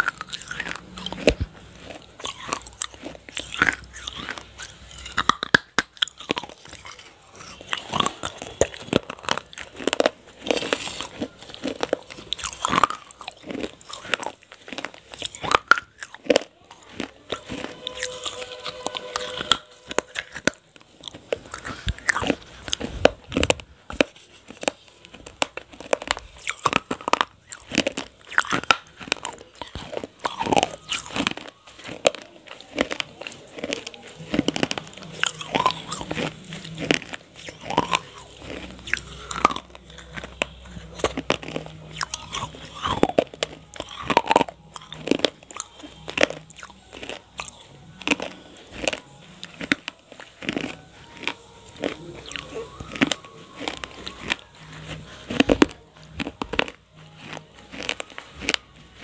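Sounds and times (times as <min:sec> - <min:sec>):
crunching clay shards: 0:00.0 - 0:59.0.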